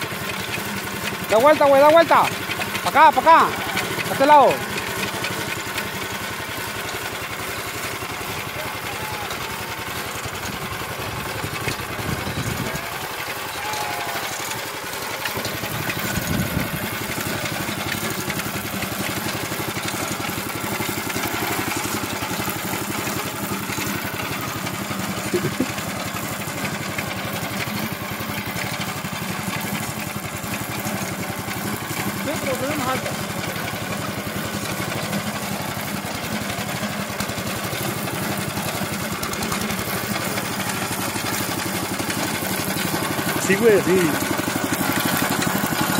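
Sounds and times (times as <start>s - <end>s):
small engine running: 0.0s - 45.9s.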